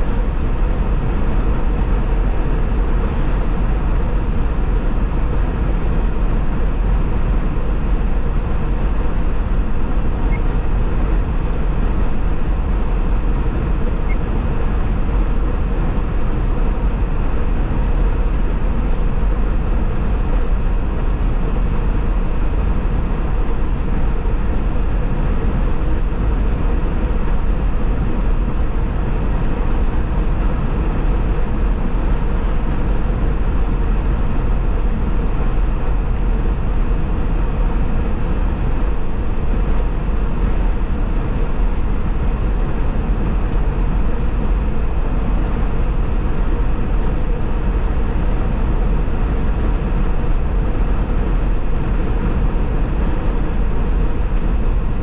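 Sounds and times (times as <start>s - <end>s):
car road and wind noise: 0.0s - 55.0s
faint constant hum: 0.0s - 55.0s.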